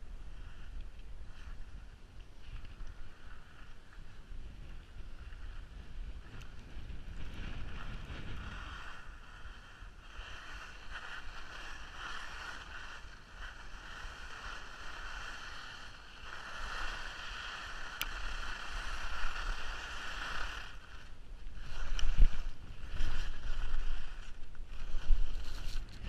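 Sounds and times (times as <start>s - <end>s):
wind rumbling on microphone: 0.0s - 26.0s
skis sliding on snow: 0.1s - 26.0s.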